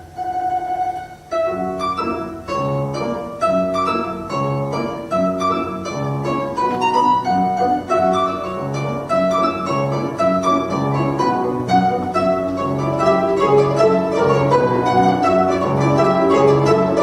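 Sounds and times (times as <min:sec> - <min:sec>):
plucked string instrument duet: 0:00.0 - 0:17.0.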